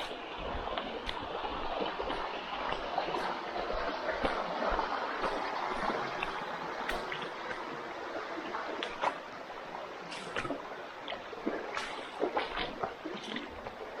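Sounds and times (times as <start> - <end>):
stream water running: 0.0 - 14.0.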